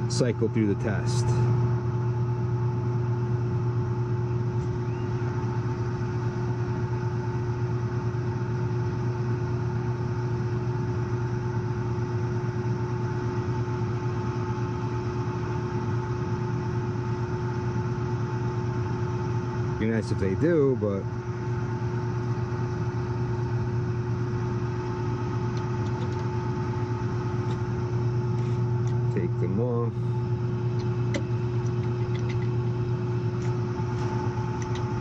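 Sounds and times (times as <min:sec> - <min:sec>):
faint steady whine: 0:00.0 - 0:35.0
hvac unit low hum: 0:00.0 - 0:35.0.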